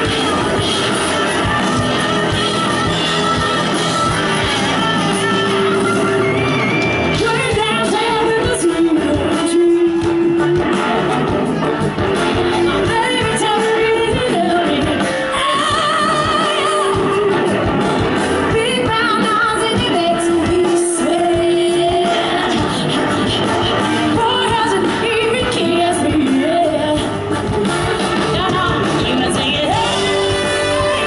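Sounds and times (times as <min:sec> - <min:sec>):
live band playing: 0:00.0 - 0:31.0
woman singing lead: 0:00.0 - 0:31.0.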